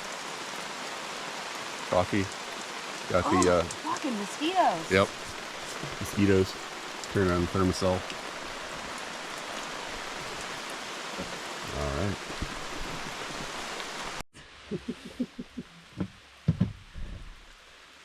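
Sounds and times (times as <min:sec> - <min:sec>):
steady rain hissing: 0:00.0 - 0:18.0.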